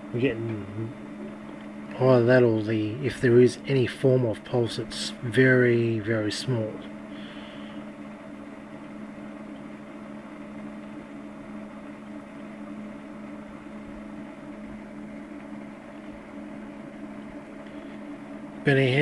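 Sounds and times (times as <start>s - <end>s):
electronic equipment hum: 0.0s - 19.0s.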